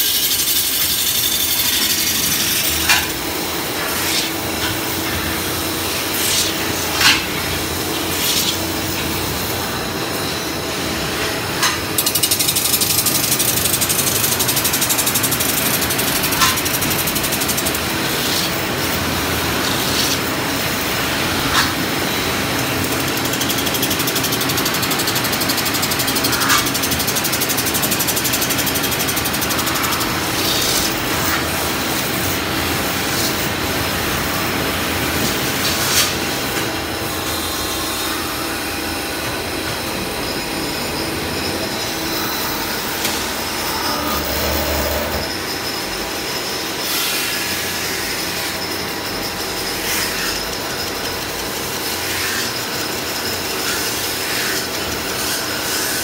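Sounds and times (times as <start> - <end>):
metal-spinning machine hissing: 0.0 - 56.0.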